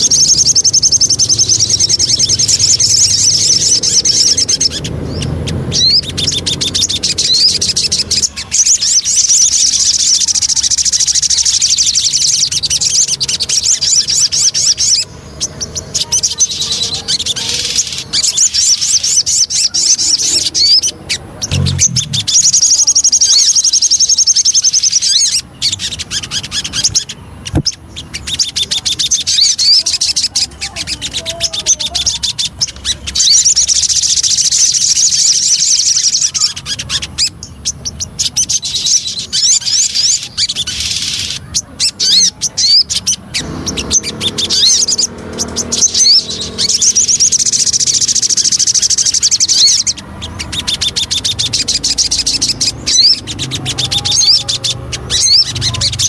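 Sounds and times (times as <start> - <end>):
songbird chattering in trills: 0.0 - 56.0.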